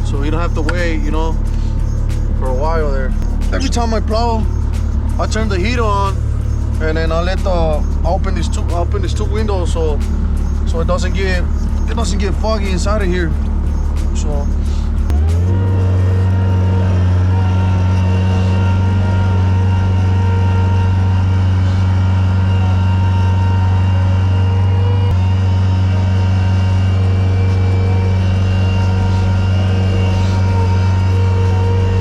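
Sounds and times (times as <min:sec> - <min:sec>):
vehicle engine droning: 0:00.0 - 0:32.0.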